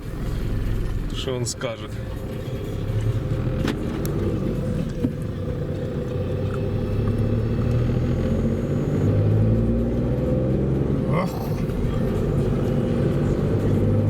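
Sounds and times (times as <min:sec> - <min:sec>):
car engine drone in cabin: 0:00.0 - 0:14.0
road noise: 0:00.0 - 0:14.0.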